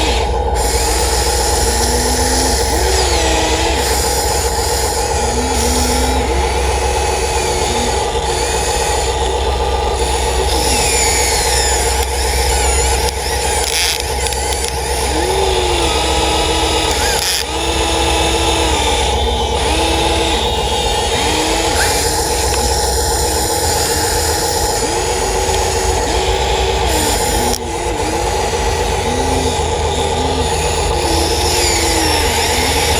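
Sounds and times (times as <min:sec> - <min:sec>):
excavator hydraulics working: 0:00.0 - 0:32.9.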